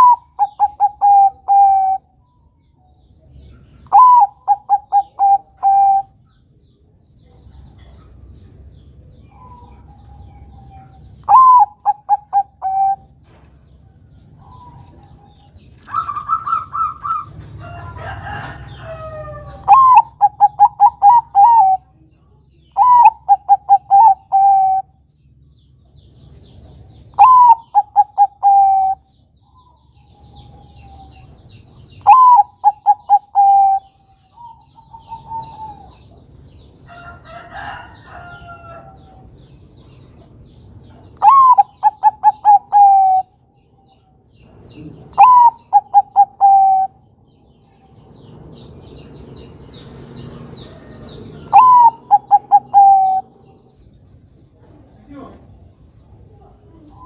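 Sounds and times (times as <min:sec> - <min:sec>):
dove cooing song: 0:00.0 - 0:02.5, 0:03.2 - 0:06.4, 0:09.0 - 0:22.0, 0:22.6 - 0:25.0, 0:26.3 - 0:39.5, 0:40.1 - 0:54.8.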